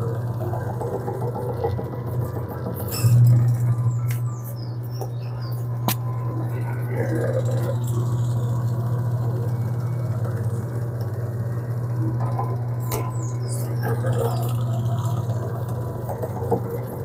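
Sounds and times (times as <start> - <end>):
electric pasta roller humming: 0.0 - 17.0.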